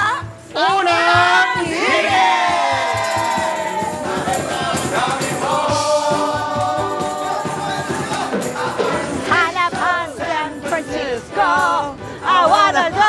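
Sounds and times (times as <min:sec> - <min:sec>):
backing track with steady beat: 0:00.0 - 0:13.0
group of voices singing: 0:00.5 - 0:13.0.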